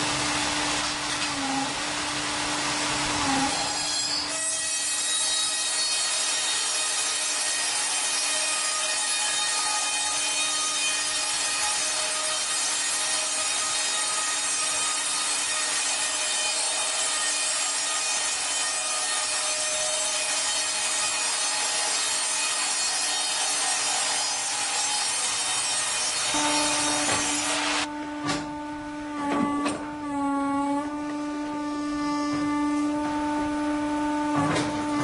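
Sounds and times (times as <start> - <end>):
wood being sawn: 2.9 - 35.0.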